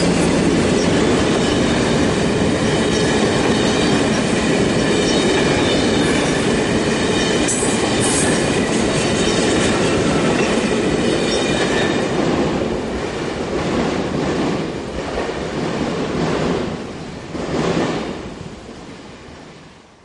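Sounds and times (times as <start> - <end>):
train wheels clattering over rails: 0.0 - 18.3
train rumble: 0.0 - 19.8.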